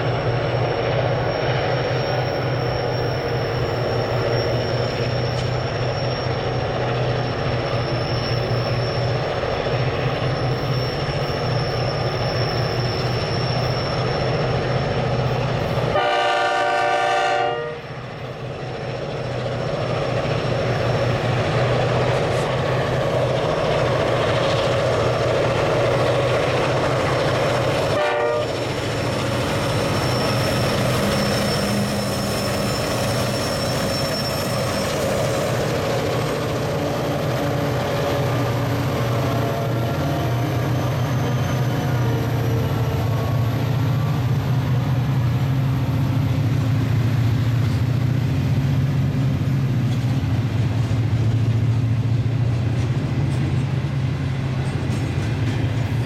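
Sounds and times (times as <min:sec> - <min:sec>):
diesel locomotives pulling hard: 0:00.0 - 0:56.0
train wheels rumbling on rail: 0:00.0 - 0:56.0.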